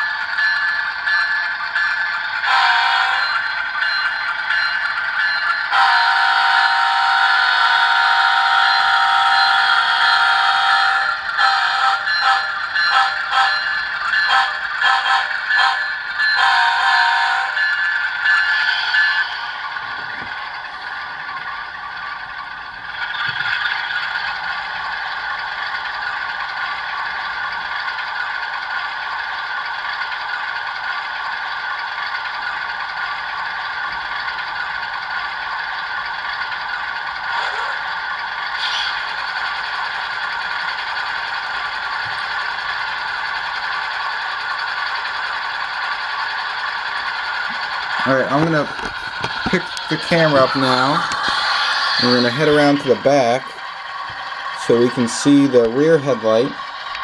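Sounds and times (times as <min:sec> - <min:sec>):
diesel locomotive engine sound: 0:00.0 - 0:57.0.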